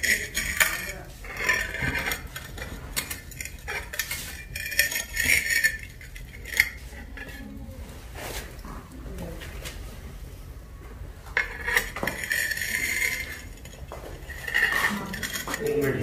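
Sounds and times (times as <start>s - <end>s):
metallic clinking and scraping: 0.0s - 8.6s, 11.3s - 16.0s.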